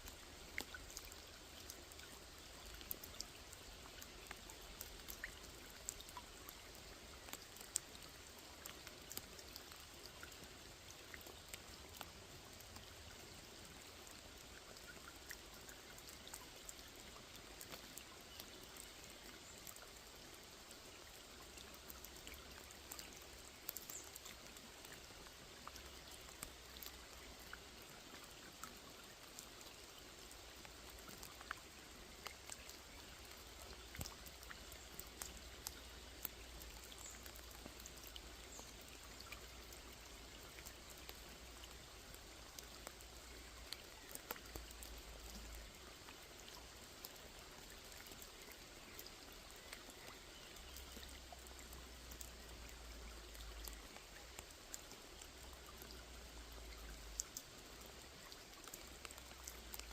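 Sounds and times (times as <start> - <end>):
rain falling on a pond: 0.0 - 59.9.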